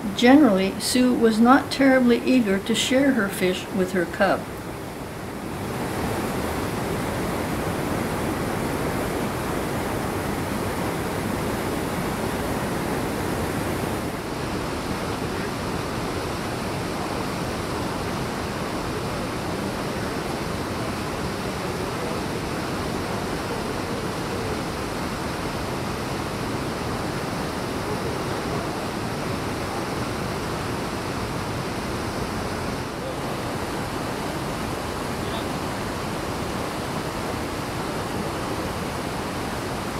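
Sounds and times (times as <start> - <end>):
creek water rushing over rocks: 3.0 - 39.9.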